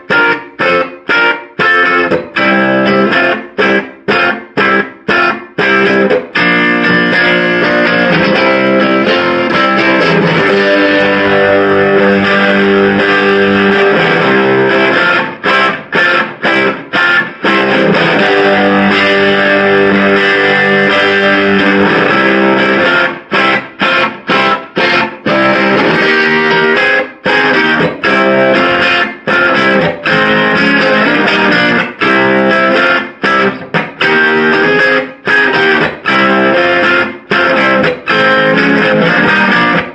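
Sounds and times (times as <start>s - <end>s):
electric guitar strummed chords: 0.0s - 39.9s.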